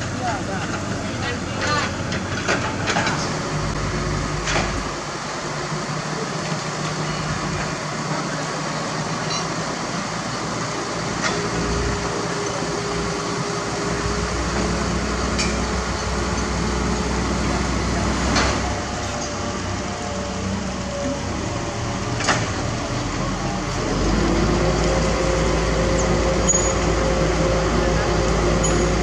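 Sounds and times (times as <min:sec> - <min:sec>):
diesel engines running: 0:00.0 - 0:29.0
steady whine: 0:00.0 - 0:29.0.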